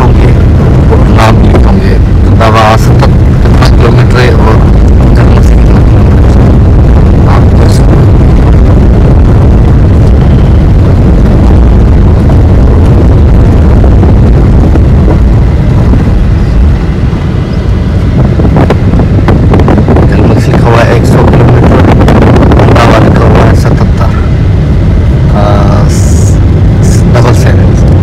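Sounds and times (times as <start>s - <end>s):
vehicle rumbling: 0.0s - 28.0s.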